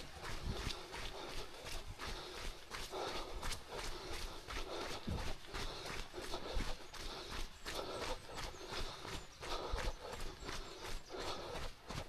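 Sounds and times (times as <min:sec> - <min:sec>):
running footsteps on dirt trail: 0:00.0 - 0:12.0.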